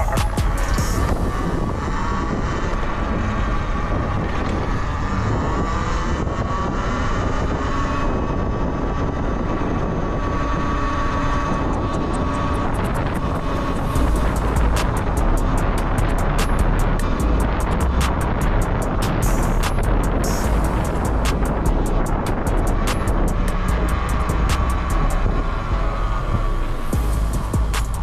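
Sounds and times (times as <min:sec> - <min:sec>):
electric motor whine: 0:00.0 - 0:28.0
wind buffeting microphone: 0:00.0 - 0:28.0.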